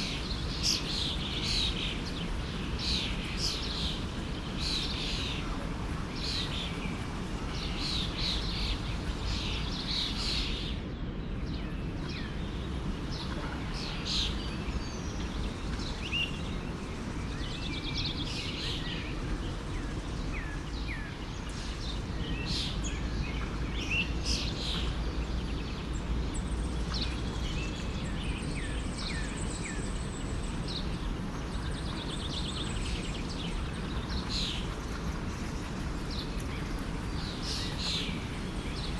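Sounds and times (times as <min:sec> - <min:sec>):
forest stream rushing: 0:00.0 - 0:10.8, 0:11.5 - 0:38.9
birds chirping and singing: 0:00.4 - 0:10.8, 0:11.5 - 0:38.9.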